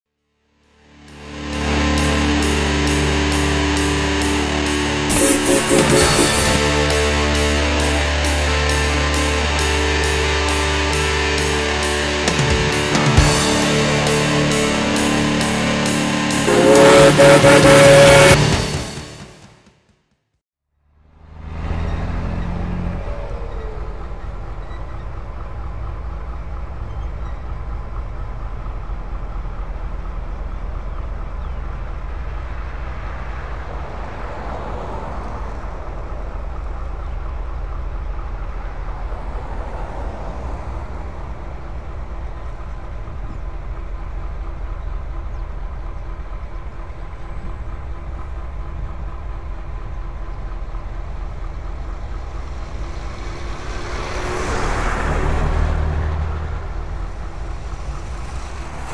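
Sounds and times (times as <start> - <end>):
locomotive engines rumbling: 1.3 - 19.2, 21.5 - 58.9.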